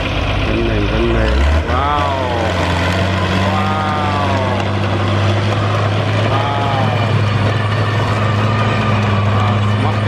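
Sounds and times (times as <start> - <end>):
rotary tiller in soil: 0.0 - 10.0
tractor diesel engine under load: 0.0 - 10.0.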